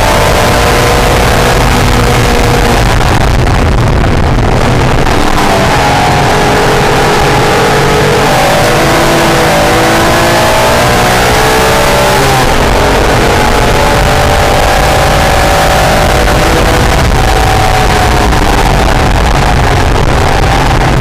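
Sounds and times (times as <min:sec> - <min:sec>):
car engine pulling hard: 0:00.0 - 0:21.0
road and wind roar: 0:00.0 - 0:21.0.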